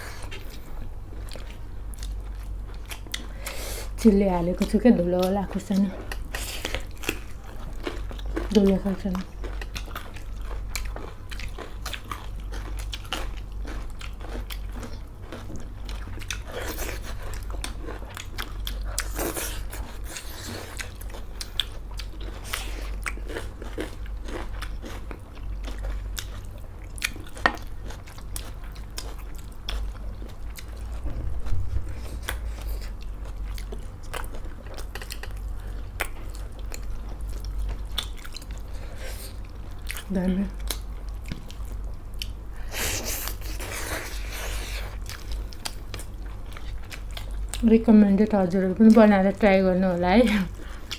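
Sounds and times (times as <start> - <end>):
person chewing and crunching food: 0.0 - 47.7, 50.3 - 50.9
steady low hum: 0.0 - 50.9.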